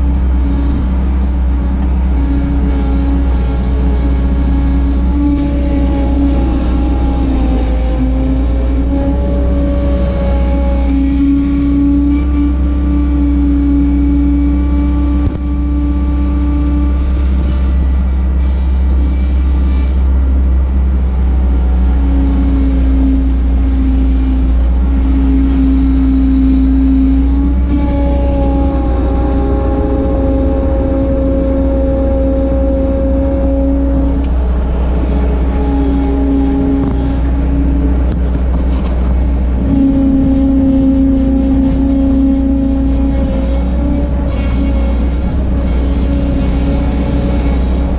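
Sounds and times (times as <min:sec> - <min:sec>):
skid steer engine rumble: 0:00.0 - 0:47.9.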